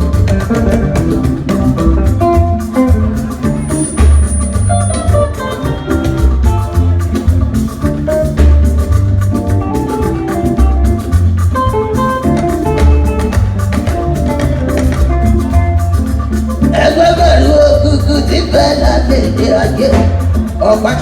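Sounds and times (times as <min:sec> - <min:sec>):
drums: 0:00.0 - 0:21.0
guitar lines: 0:00.0 - 0:21.0
heavy bass: 0:00.0 - 0:21.0.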